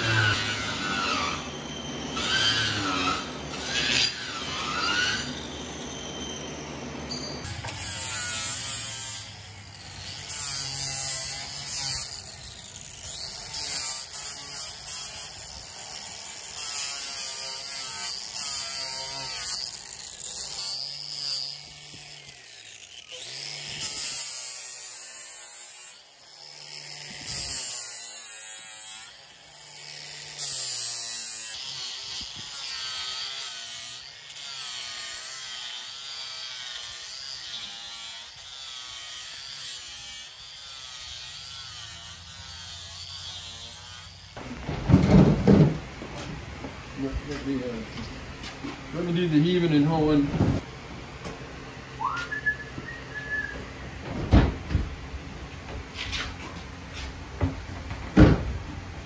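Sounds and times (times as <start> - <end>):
angle grinder whining: 0.0 - 54.1
sander buzzing: 0.0 - 59.0.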